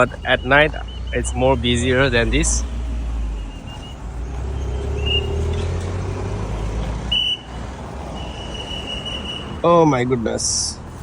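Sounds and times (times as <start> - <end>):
vehicle engine passing: 0.0 - 9.6
steady road noise: 0.0 - 11.0.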